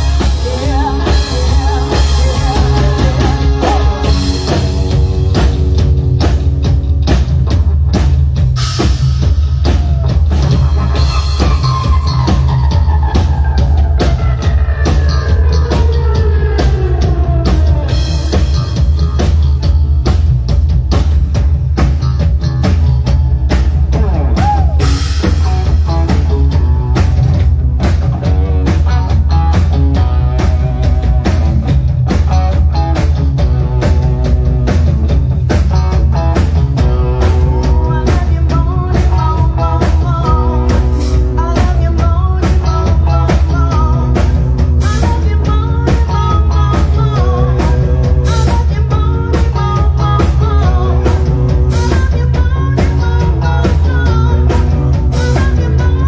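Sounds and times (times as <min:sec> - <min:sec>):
loud rock music: 0:00.0 - 0:56.0.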